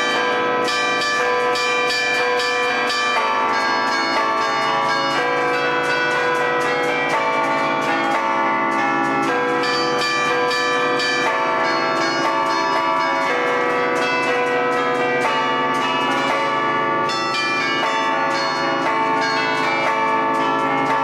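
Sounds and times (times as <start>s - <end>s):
church bells playing a tune: 0.0s - 21.0s.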